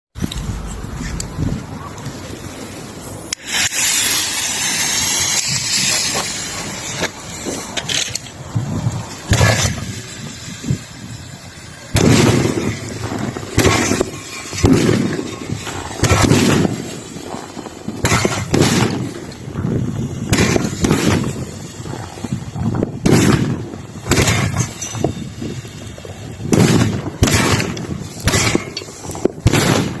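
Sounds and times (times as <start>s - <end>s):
firework bangs: 3.4s - 30.0s
low rumble: 4.8s - 30.0s.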